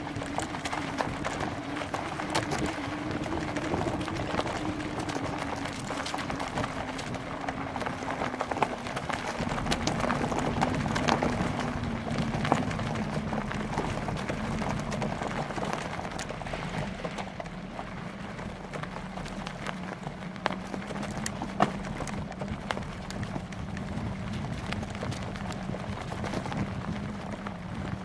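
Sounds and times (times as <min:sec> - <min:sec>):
bicycle tyres rolling on dirt: 0:00.0 - 0:28.0
bike rattling over bumps: 0:00.0 - 0:28.0
low hum: 0:00.0 - 0:28.0
wind buffeting microphone: 0:00.0 - 0:28.0.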